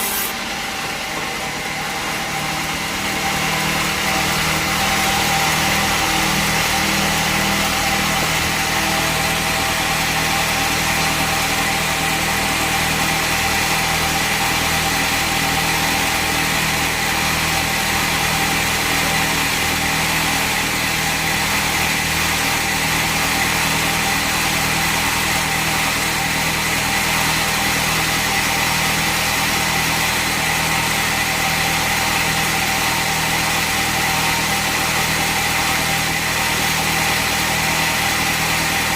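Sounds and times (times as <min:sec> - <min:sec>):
bandsaw machinery whining: 0:00.0 - 0:38.9.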